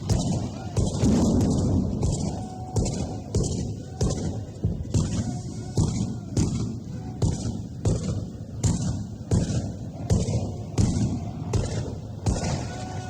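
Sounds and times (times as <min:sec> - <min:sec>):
distant gunfire rumble: 0:00.0 - 0:13.0
sharp gunshots: 0:00.0 - 0:13.0.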